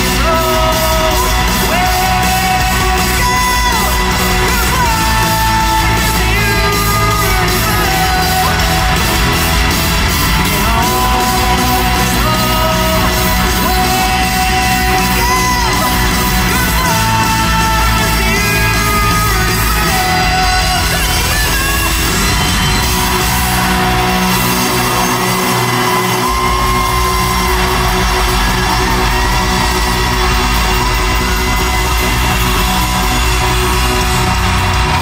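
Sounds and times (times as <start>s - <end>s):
live rock band with singing: 0.0s - 35.0s.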